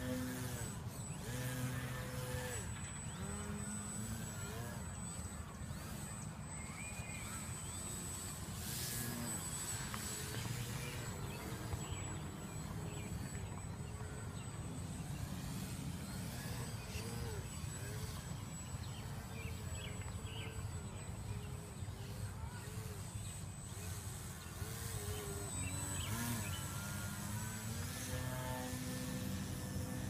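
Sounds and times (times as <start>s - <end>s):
model airplane motor buzzing: 0.0s - 30.0s.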